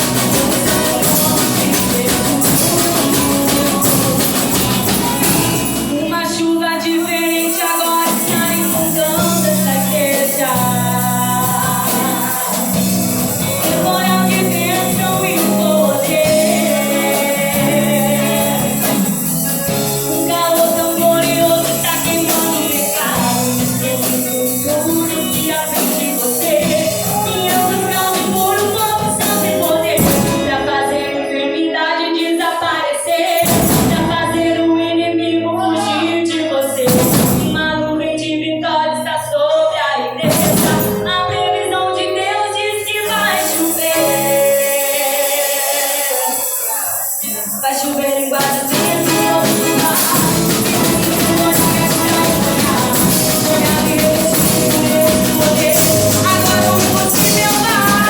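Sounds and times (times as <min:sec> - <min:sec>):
jingling percussion: 0:00.0 - 0:30.6, 0:33.2 - 0:34.3, 0:36.6 - 0:37.7, 0:42.8 - 0:58.0
percussion band: 0:00.0 - 0:31.2, 0:32.2 - 0:34.6, 0:35.8 - 0:38.0, 0:40.2 - 0:58.0
gospel singing: 0:00.0 - 0:58.0.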